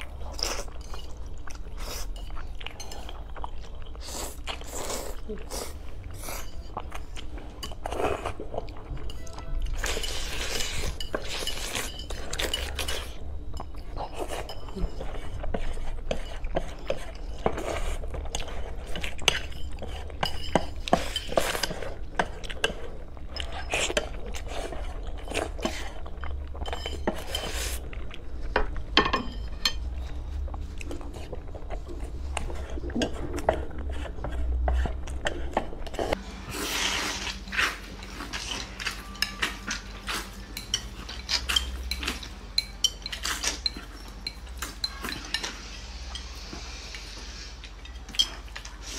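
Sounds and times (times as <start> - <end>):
slurping and chewing: 0.0 - 28.9, 29.7 - 48.9.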